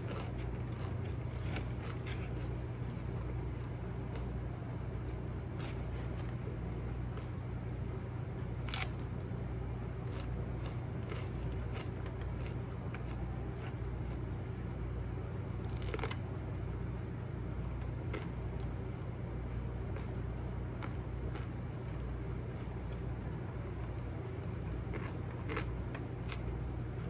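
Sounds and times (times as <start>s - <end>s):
low hum with faint hiss: 0.0s - 27.0s.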